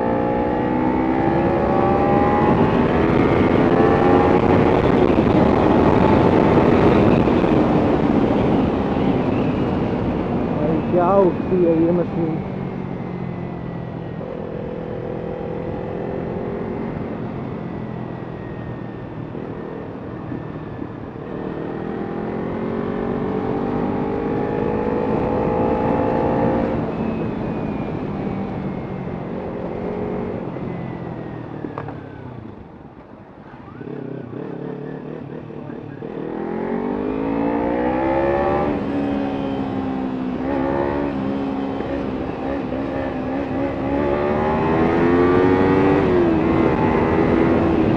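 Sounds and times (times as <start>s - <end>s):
motorcycle engine accelerating: 0.0s - 11.1s, 11.9s - 32.8s, 33.4s - 47.9s.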